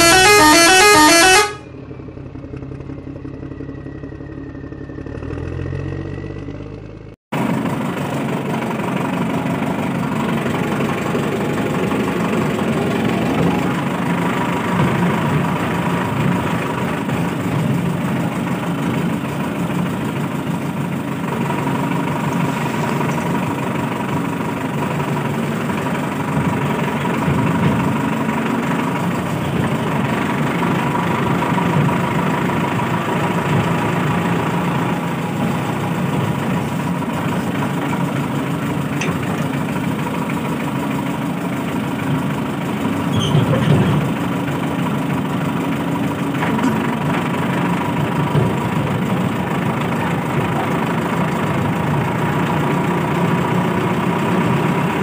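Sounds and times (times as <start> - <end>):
large engine idling: 0.0 - 55.0.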